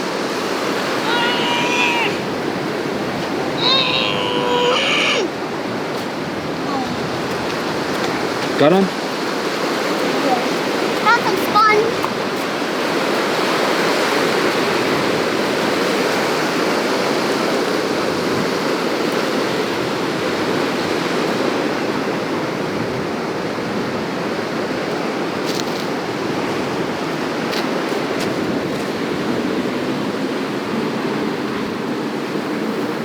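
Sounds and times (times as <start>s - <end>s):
ocean surf washing on shore: 0.0s - 33.0s.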